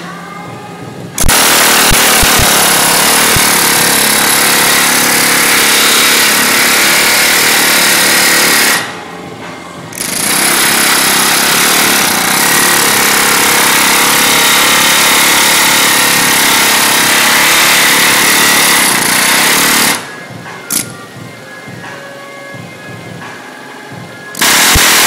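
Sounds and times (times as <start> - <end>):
pneumatic air hammer hammering metal: 1.1 - 21.2, 24.3 - 25.0.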